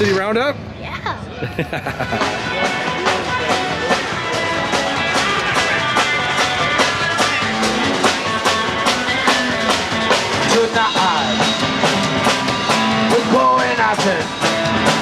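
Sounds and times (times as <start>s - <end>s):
upbeat rock music: 1.8s - 15.0s.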